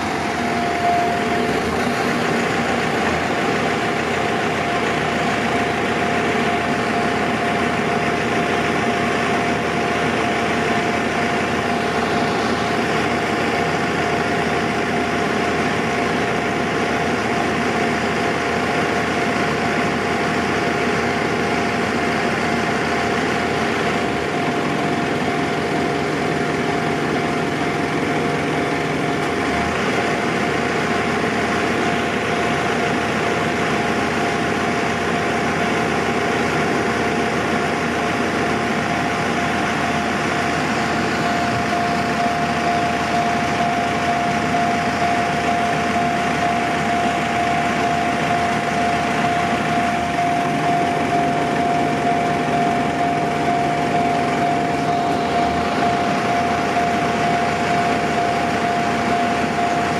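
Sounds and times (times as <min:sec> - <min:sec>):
cars idling: 0:00.0 - 0:59.9
level crossing alarm ringing: 0:00.0 - 0:59.9.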